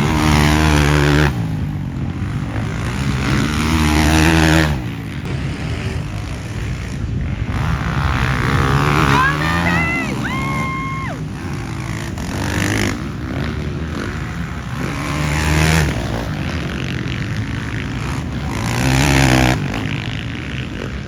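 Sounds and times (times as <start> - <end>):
motocross bikes revving: 0.0 - 21.0.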